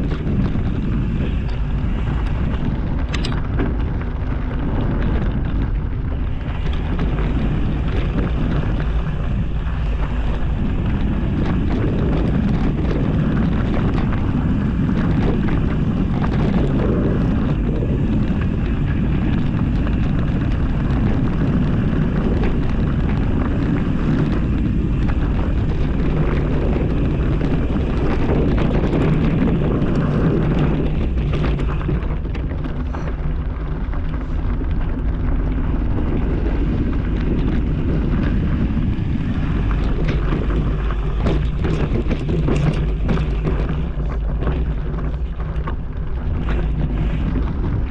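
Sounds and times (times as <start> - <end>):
wind rumble on microphone: 0.0 - 47.9.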